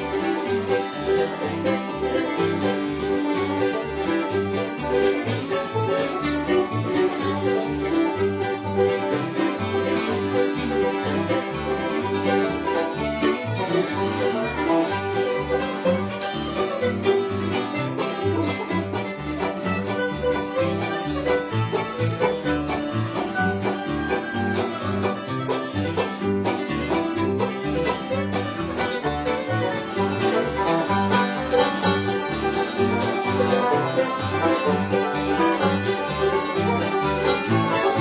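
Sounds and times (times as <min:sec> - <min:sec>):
banjo picking: 0:00.0 - 0:38.0
strummed guitar: 0:00.0 - 0:38.0.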